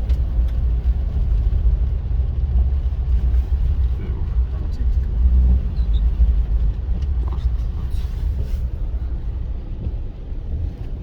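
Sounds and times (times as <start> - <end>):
car engine rumble: 0.0 - 11.0
tyres on the road: 0.0 - 11.0.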